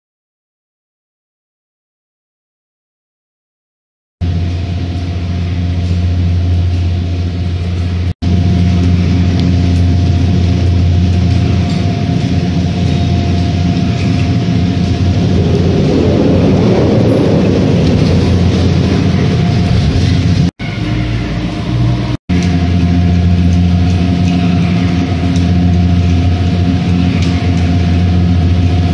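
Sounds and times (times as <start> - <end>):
gondola cabins rumbling: 4.2 - 28.9
machinery high whine: 4.2 - 28.9
machinery low hum: 4.2 - 28.9.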